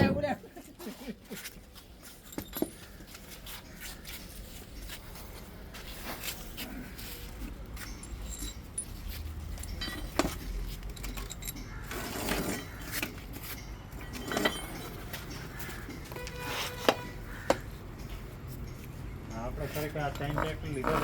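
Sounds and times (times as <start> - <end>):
metal tools clinking and knocking: 1.4 - 5.1, 5.8 - 21.0.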